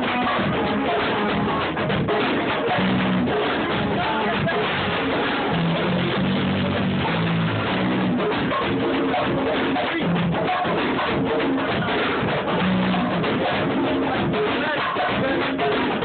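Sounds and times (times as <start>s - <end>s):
distorted hip hop beat: 0.0s - 16.0s.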